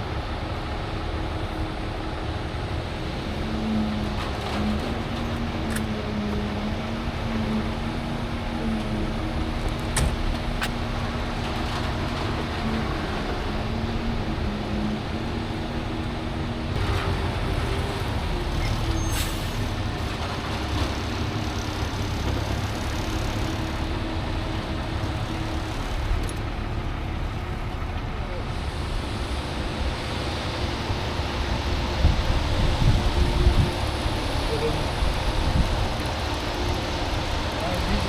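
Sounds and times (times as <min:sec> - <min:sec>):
diesel truck engine running: 0:00.1 - 0:38.0.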